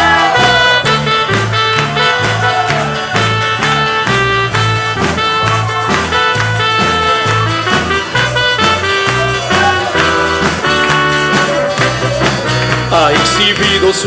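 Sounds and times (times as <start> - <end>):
upbeat instrumental band music: 0.0 - 14.0.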